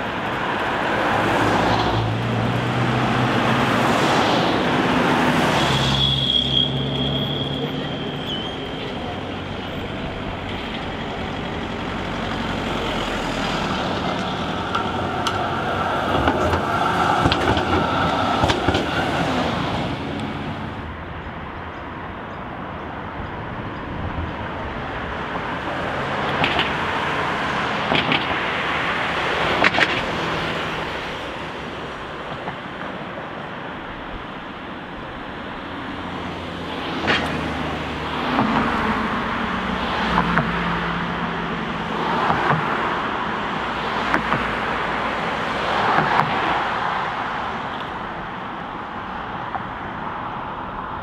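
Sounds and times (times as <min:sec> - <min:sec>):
road and motor noise: 0:00.0 - 0:51.0.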